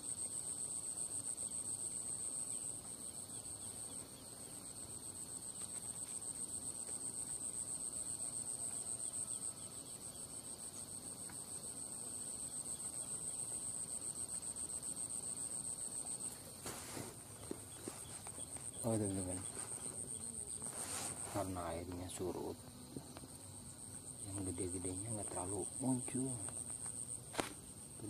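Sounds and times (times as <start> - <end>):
fainter lower insect trill: 0.0 - 28.0
high-pitched insect trill: 0.0 - 28.0.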